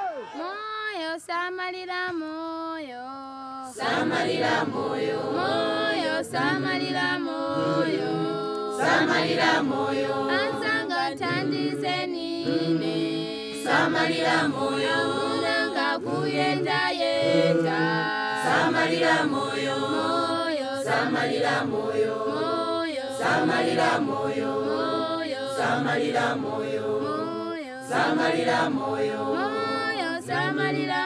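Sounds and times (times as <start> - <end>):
choir singing a chant: 3.6 - 31.0.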